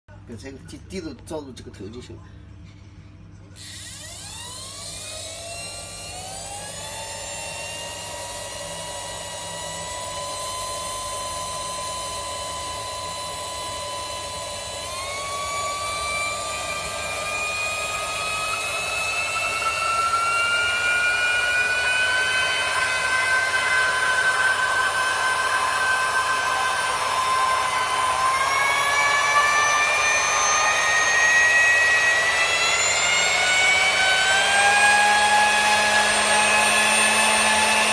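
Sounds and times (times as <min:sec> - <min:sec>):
homogenizer motor whine: 0:03.6 - 0:37.9.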